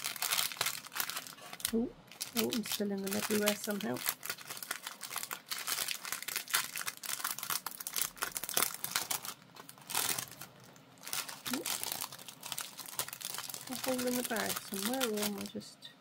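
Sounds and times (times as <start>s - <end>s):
bag crinkling and rustling: 0.0s - 15.5s.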